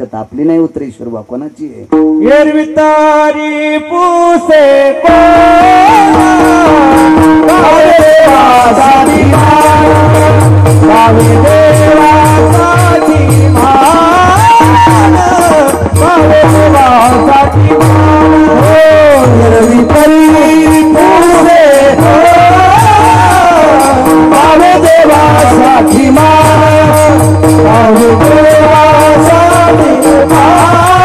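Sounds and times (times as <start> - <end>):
men singing a devotional chant: 2.3 - 31.0
drum beat: 5.1 - 31.0.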